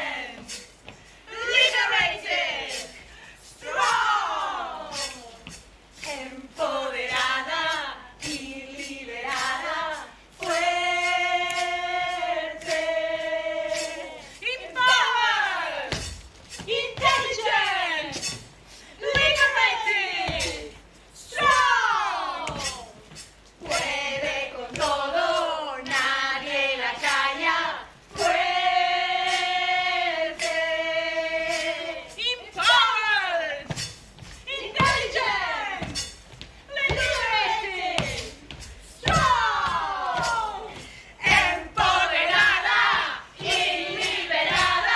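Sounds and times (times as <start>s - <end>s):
voices singing unaccompanied: 0.0s - 44.9s.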